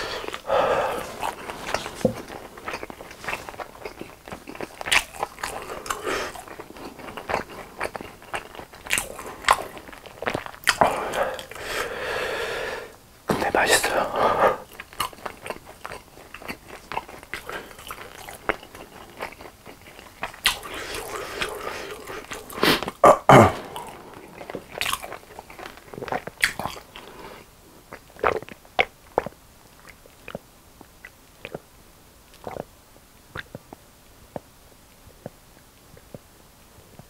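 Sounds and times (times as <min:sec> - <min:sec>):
man chewing and eating: 0:00.0 - 0:31.7, 0:32.3 - 0:37.0.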